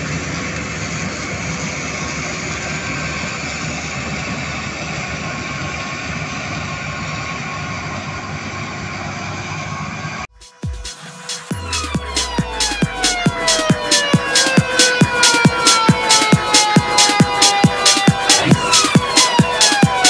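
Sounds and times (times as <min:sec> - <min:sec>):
combine harvester drone: 0:00.0 - 0:20.0.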